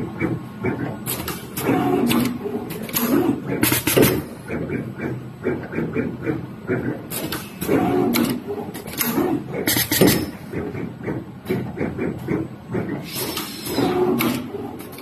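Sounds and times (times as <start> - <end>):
machine mechanical clatter: 0.0 - 15.0
machine sharp clicks: 0.2 - 15.0.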